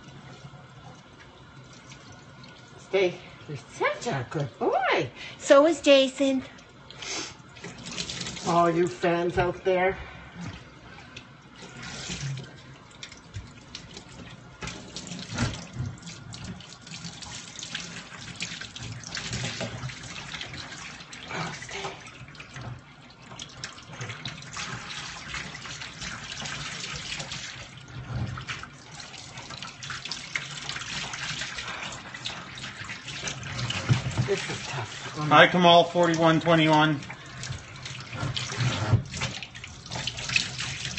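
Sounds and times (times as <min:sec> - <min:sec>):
tap water running: 0:00.0 - 0:40.9
water splashing into a steel sink: 0:06.7 - 0:09.4, 0:10.4 - 0:40.9.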